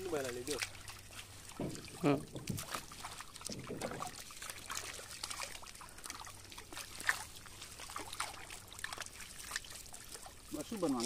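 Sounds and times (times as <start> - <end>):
fish flapping and splashing: 0.0 - 11.0
water trickling: 0.0 - 11.0.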